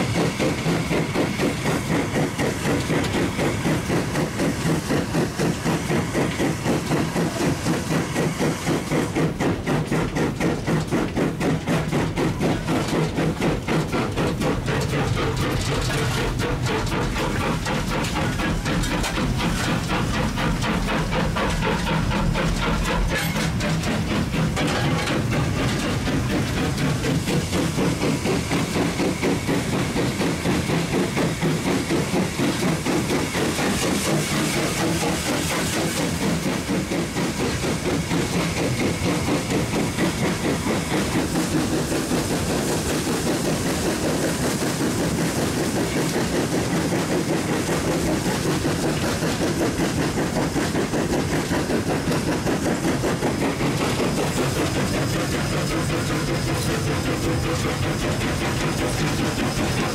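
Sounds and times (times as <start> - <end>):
steam hissing: 0.0 - 59.9
steam locomotive exhaust beats: 0.0 - 59.9
train wheels rattling on rails: 0.0 - 59.9.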